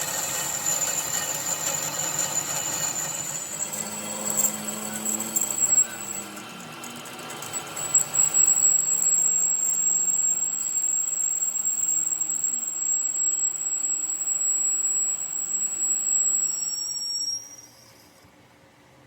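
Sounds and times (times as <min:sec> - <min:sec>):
machine tool squealing on metal: 0:00.0 - 0:18.3.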